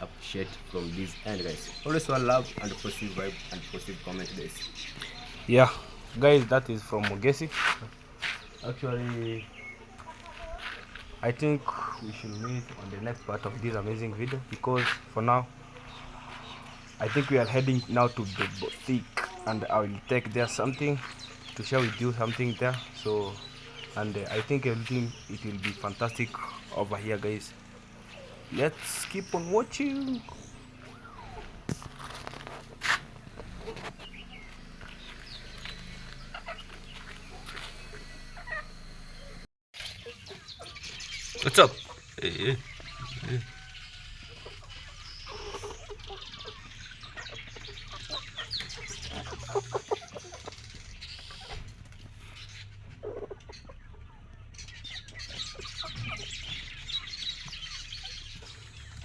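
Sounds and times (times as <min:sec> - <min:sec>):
chickens clucking: 0:00.0 - 0:59.0
chicks chirping: 0:00.0 - 0:59.0.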